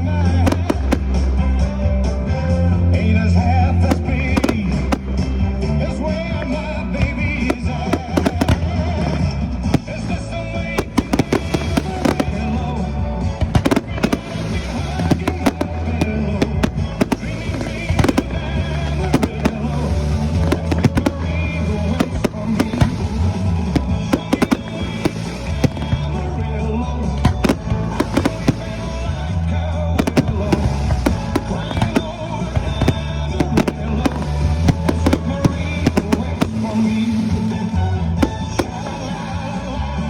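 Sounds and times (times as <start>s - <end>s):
fireworks bangs and crackles: 0.0s - 40.0s
loud music with singer: 0.0s - 40.0s.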